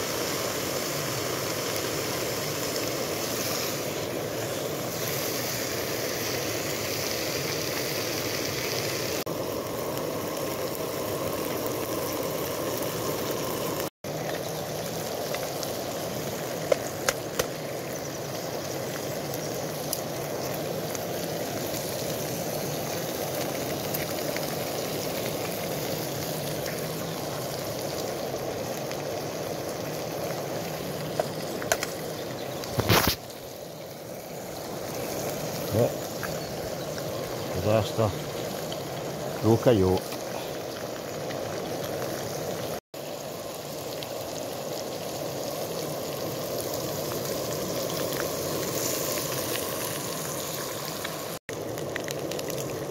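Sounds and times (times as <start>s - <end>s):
bacon frying in a pan: 0.0s - 52.9s.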